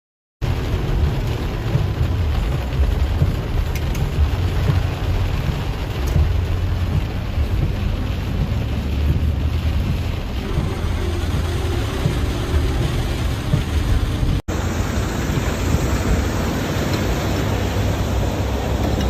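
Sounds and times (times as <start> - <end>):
deep steady rumble: 0.4 - 19.0
heavy rain on car roof: 0.4 - 19.0.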